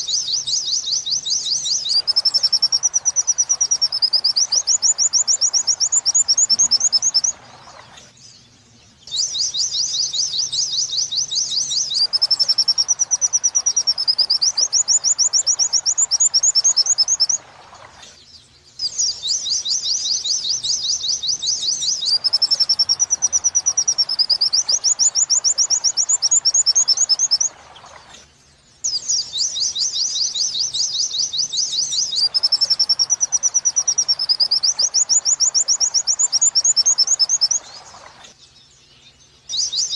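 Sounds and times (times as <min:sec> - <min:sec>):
bird song recording: 0:00.0 - 0:39.9.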